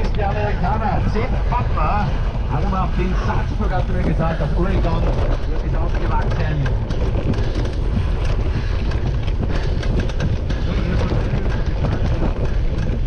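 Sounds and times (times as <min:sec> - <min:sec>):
bicycle clicks and rattles: 0:00.0 - 0:13.0
wind on microphone: 0:00.0 - 0:13.0.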